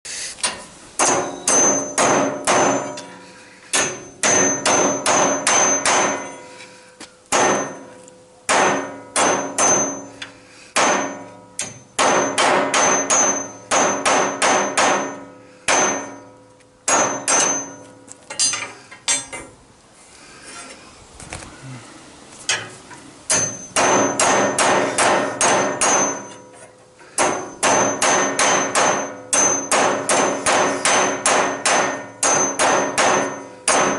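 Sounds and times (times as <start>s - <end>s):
hammer striking metal: 0.4s - 6.5s, 7.3s - 19.5s, 23.3s - 26.6s, 27.2s - 33.9s.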